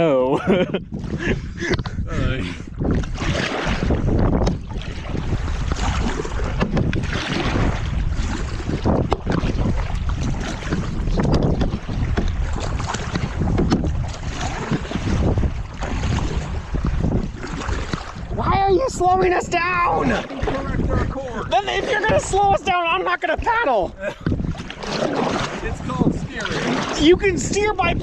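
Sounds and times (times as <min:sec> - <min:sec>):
wind buffeting microphone: 0:00.0 - 0:28.0
paddles splashing in water: 0:00.9 - 0:28.0.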